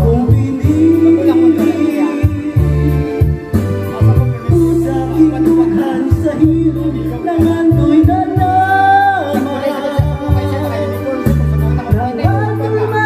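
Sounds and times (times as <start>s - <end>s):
backing track with bass beat: 0.0s - 13.0s
man singing into a microphone: 0.0s - 13.0s.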